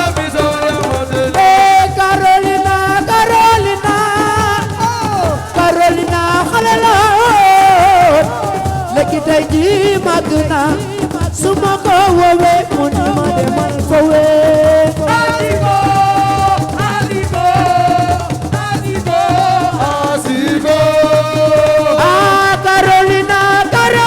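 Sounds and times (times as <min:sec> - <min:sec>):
hand drum and shaker percussion: 0:00.0 - 0:24.0.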